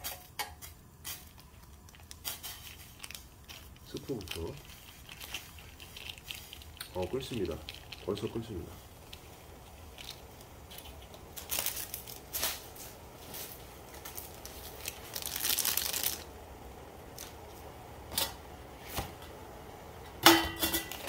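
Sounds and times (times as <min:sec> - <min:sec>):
plastic packaging crinkling and tearing: 0:01.0 - 0:18.4.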